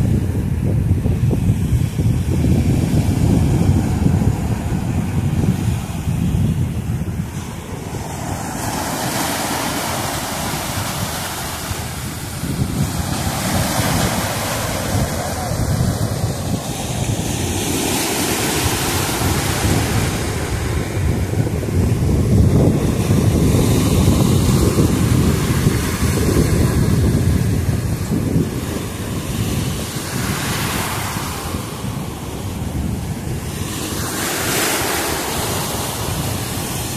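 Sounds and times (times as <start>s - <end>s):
sea surf breaking on shore: 0.0s - 36.9s
wind buffeting microphone: 0.0s - 36.9s.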